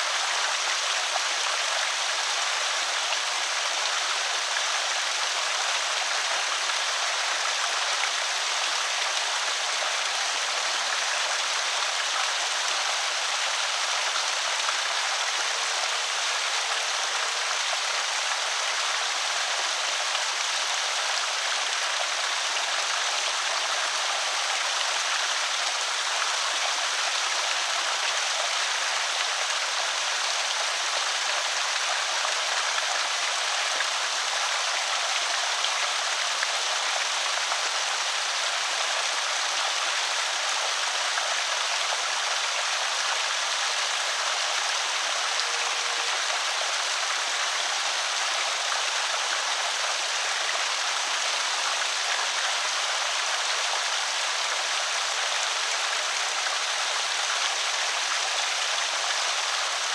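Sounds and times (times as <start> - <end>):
water rushing over a spillway: 0.0 - 59.9.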